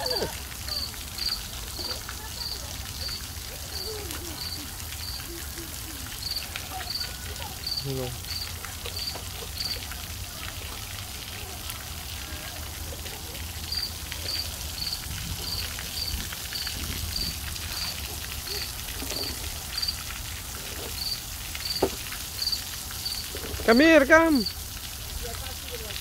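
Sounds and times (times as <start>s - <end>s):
water spraying and splashing: 0.0s - 26.0s.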